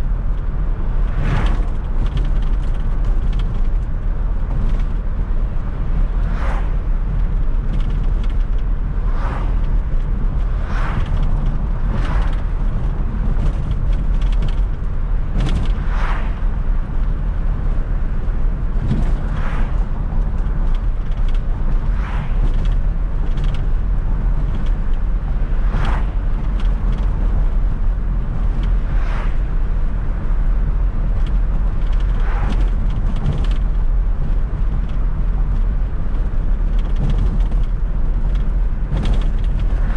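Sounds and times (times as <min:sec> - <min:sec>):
car engine and road noise drone: 0:00.0 - 0:39.9.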